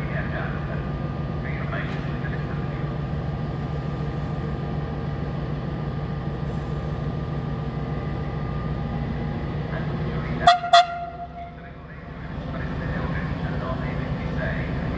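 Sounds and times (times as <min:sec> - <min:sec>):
diesel locomotive idling: 0:00.0 - 0:14.9.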